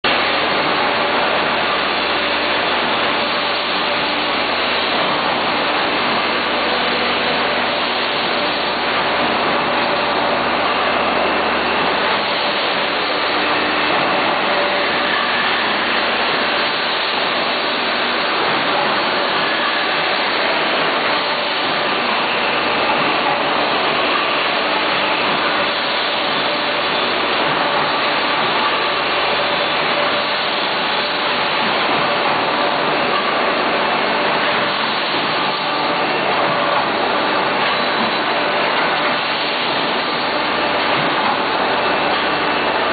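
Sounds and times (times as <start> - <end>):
machinery mechanical din: 0.0 - 42.9.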